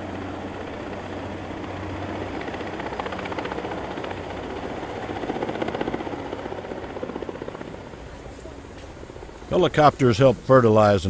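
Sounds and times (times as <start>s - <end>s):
helicopter engine hum: 0.0s - 10.9s
helicopter rotor beating: 0.0s - 11.0s.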